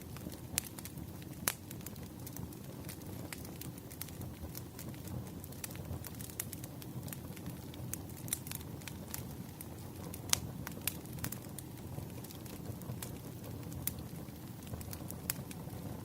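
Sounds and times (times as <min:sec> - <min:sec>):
burning wood crackling and popping: 0:00.0 - 0:16.0
rumble of flames: 0:00.0 - 0:16.0.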